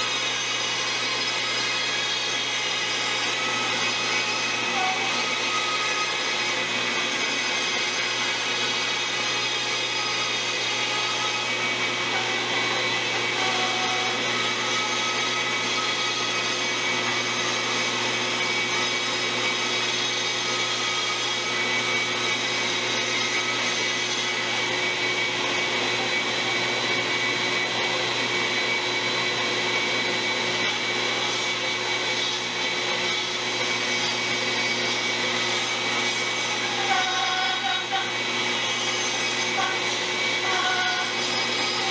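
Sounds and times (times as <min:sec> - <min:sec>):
bandsaw cutting wood: 0:00.0 - 0:41.9
dust collection vacuum running: 0:00.0 - 0:41.9.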